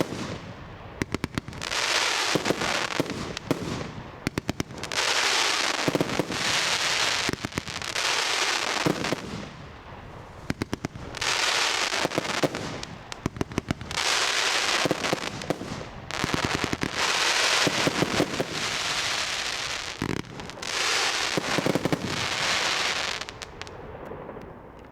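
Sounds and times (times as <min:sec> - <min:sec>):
firework bangs: 0:00.0 - 0:24.9
firework crackling: 0:00.0 - 0:24.9.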